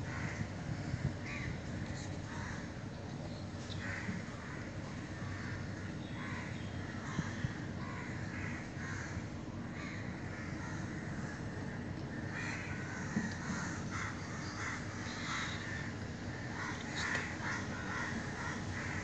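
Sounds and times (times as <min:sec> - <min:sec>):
crows cawing: 0:00.0 - 0:02.8, 0:03.7 - 0:19.0
low background hum: 0:00.0 - 0:19.0.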